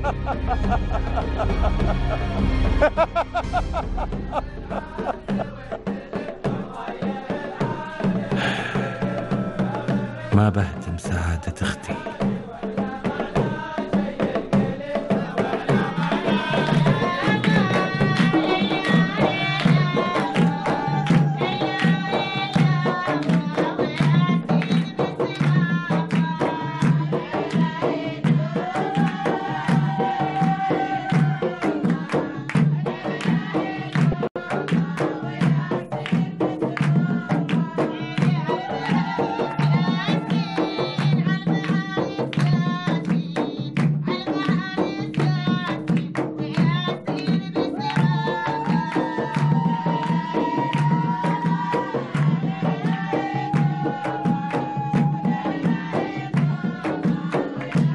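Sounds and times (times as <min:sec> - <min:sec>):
hand drum rhythm: 0:00.0 - 0:57.9.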